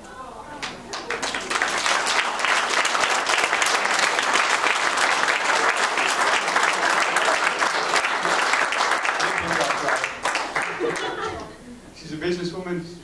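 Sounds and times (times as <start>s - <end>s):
crowd applauding: 0.6s - 11.6s.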